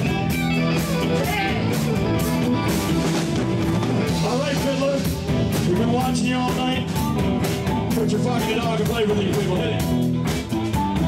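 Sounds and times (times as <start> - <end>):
bass: 0.0 - 11.0
drum kit beat: 0.0 - 11.0
electric guitar: 0.0 - 11.0.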